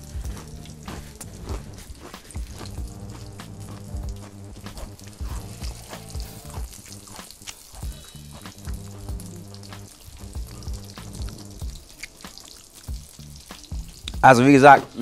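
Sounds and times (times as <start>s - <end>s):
background music with steady beat: 0.0s - 15.0s
chicken sizzling in oil: 0.0s - 15.0s.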